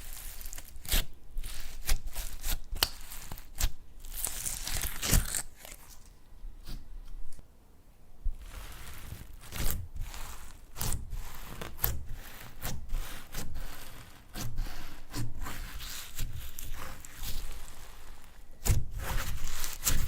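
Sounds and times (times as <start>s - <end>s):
slime squishing: 0.0s - 6.8s, 8.3s - 20.0s.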